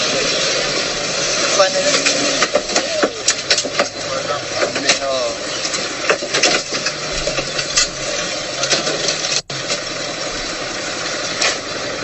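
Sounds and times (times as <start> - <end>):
car engine running: 0.0 - 12.0
loud steady hiss: 0.0 - 12.0.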